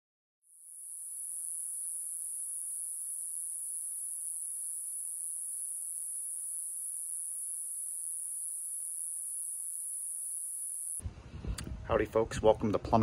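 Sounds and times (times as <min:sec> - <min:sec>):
steady high-pitched hiss: 0:00.5 - 0:13.0.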